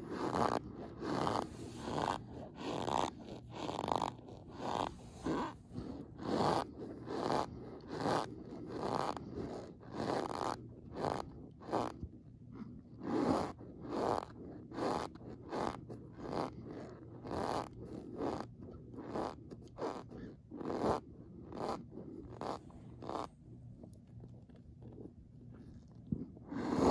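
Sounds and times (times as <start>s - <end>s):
cornstarch squeaking and crunching: 0.0s - 12.0s, 13.0s - 23.3s, 26.5s - 26.9s.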